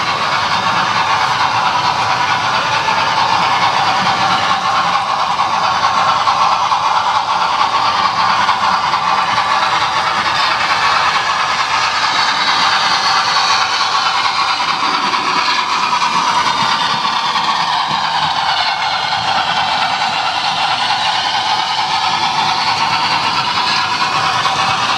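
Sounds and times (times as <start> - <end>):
model train motor whirring: 0.0 - 24.9.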